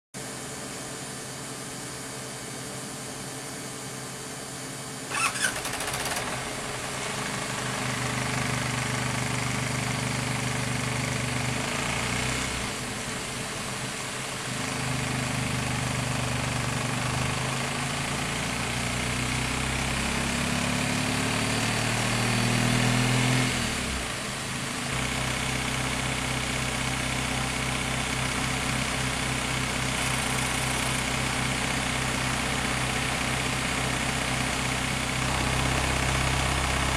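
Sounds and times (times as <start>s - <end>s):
engine running: 5.1s - 36.9s.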